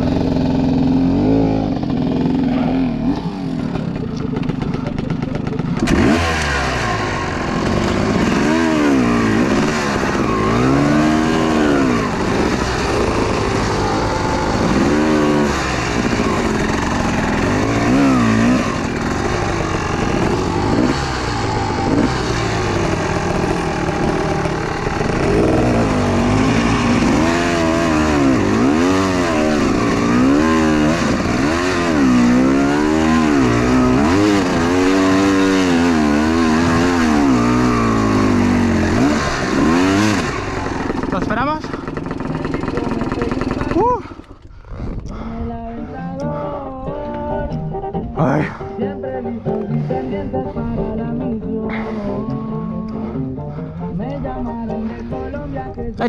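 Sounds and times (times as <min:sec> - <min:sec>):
motorcycle engine revving: 0:00.0 - 0:45.3.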